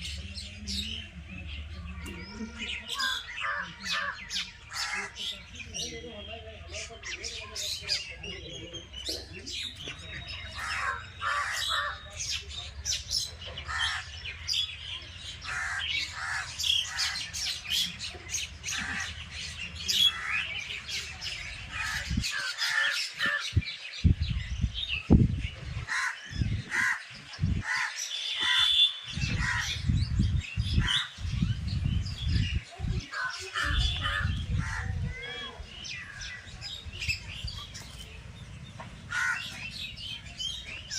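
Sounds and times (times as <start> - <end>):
birds chirping and calling: 0.0 - 40.9.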